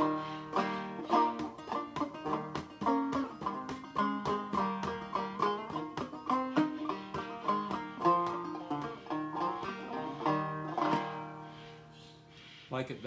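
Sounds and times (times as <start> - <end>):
banjo chord ringing: 0.0 - 12.0
banjo picking single notes: 0.0 - 12.3.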